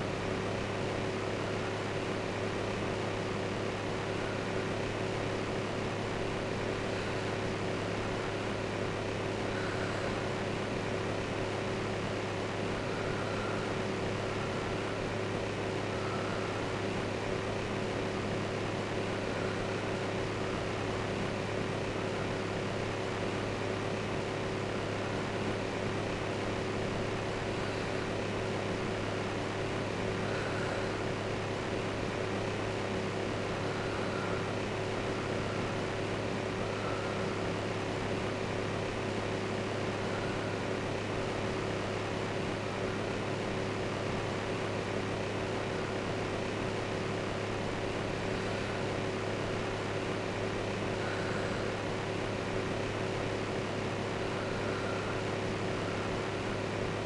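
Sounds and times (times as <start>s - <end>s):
fan running: 0.0s - 57.0s.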